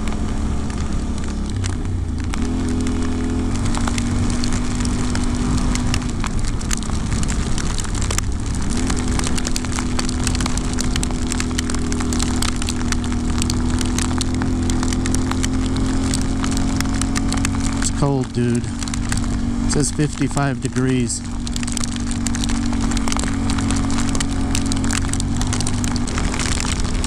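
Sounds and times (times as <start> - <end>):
motorcycle engine running: 0.0 - 27.0
raindrops ticking on camera: 0.0 - 27.0.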